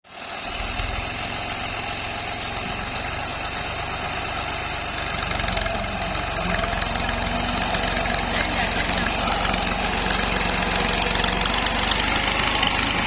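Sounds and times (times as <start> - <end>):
tractor diesel engine running: 0.1 - 13.0.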